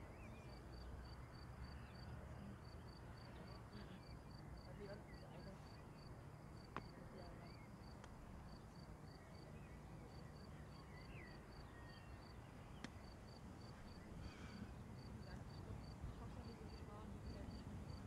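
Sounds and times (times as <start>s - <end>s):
faint bird chirps: 0.0s - 6.1s, 8.4s - 18.0s.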